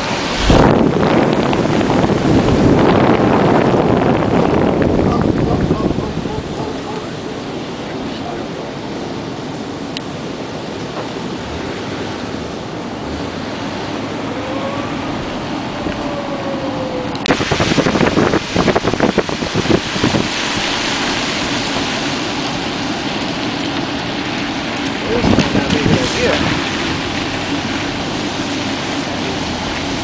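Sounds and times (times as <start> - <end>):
outdoor wind: 0.0 - 30.0
wind buffeting the microphone: 0.0 - 30.0.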